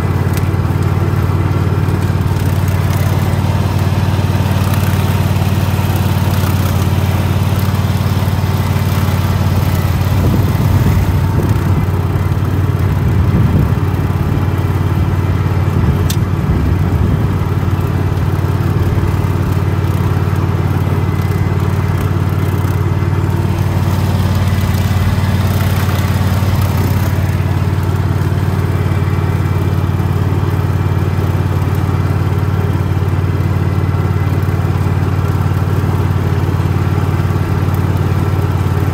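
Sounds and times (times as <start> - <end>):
riding lawn mower engine running: 0.0 - 38.9.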